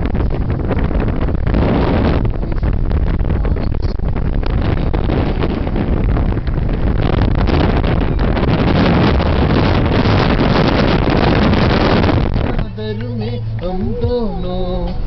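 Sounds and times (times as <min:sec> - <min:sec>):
car road and engine noise: 0:00.0 - 0:15.0
wind buffeting microphone: 0:00.0 - 0:15.0.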